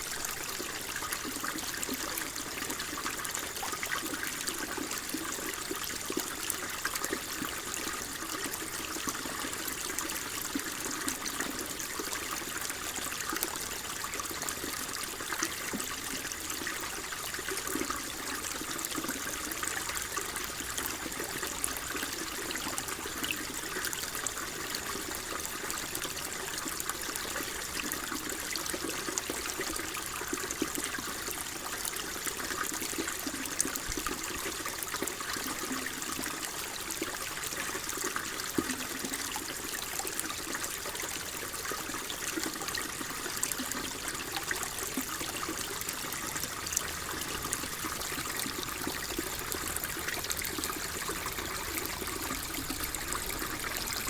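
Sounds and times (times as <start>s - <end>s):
shallow water trickling: 0.0s - 54.0s.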